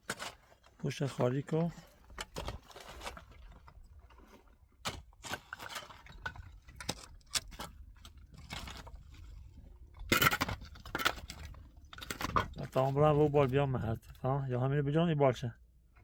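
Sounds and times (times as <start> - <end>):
knocks and scrapes: 0.0 - 14.2.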